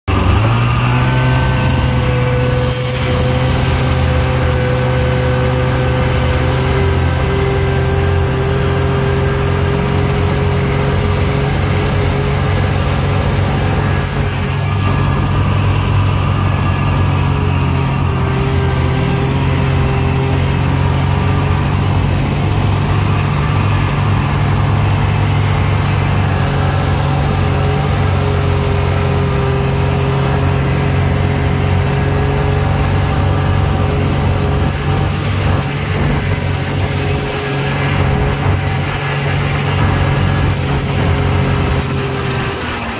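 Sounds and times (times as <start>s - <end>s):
snowmobile engine running: 0.0s - 42.9s.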